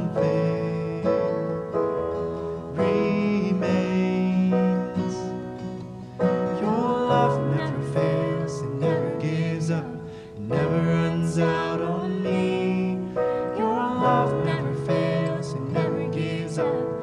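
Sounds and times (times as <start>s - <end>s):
woman and man singing: 0.0s - 1.5s, 2.8s - 5.0s, 6.4s - 17.0s
acoustic guitar strumming: 0.0s - 17.0s
keyboard piano chords: 0.0s - 17.0s.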